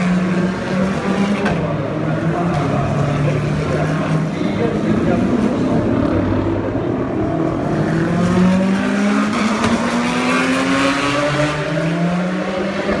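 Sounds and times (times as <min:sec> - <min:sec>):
sports car engines accelerating: 0:00.0 - 0:13.0.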